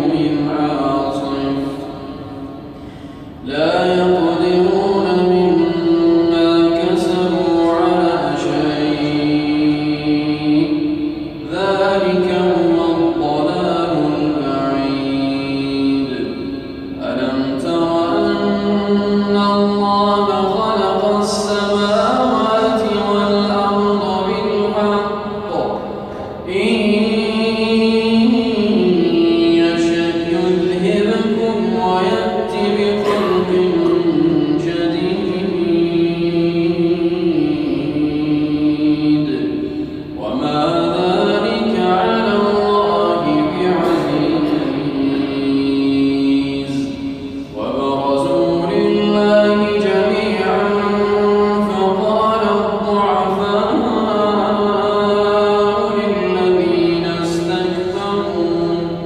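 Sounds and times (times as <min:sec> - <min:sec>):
man chanting: 0:00.0 - 0:59.0
man reciting melodically: 0:00.0 - 0:59.0.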